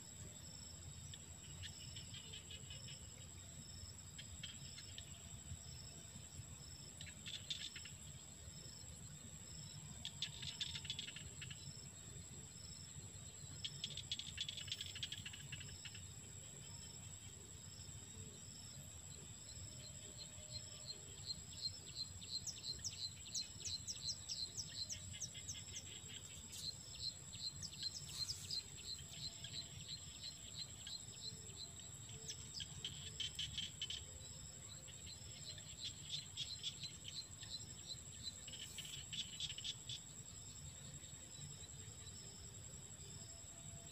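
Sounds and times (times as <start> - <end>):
insects chirping: 0.0 - 43.9
insects high-pitched drone: 0.2 - 43.9.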